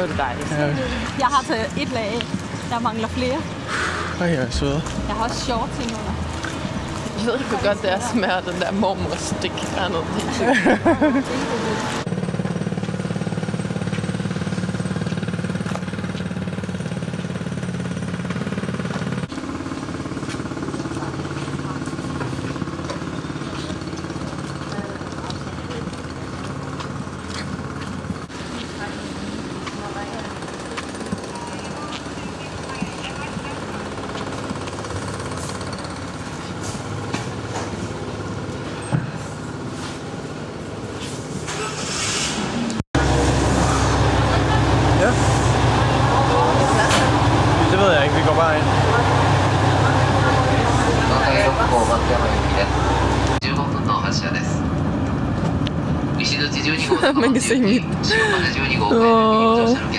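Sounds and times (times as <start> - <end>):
engine running with pulsing hum: 0.0 - 59.9.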